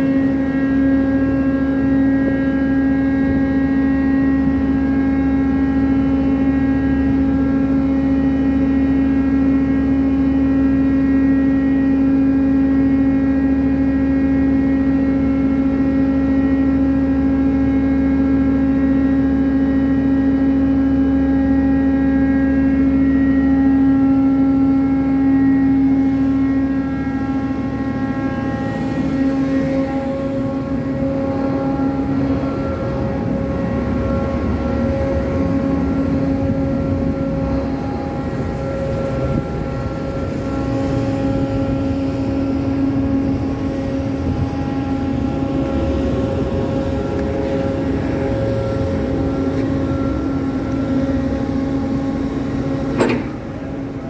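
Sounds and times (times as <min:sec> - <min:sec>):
crane machinery humming: 0:00.0 - 0:54.0.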